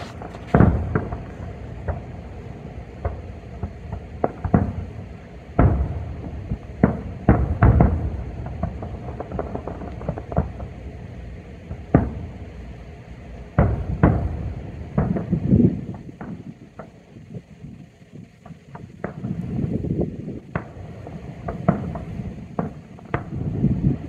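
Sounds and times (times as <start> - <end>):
fireworks booming: 0.0 - 24.0.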